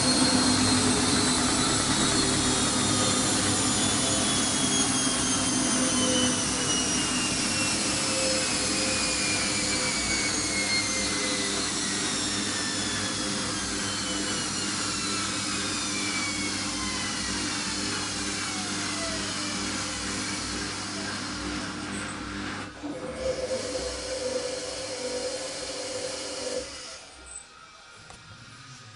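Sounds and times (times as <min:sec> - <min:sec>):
washing machine spin slowing: 0:00.0 - 0:28.9.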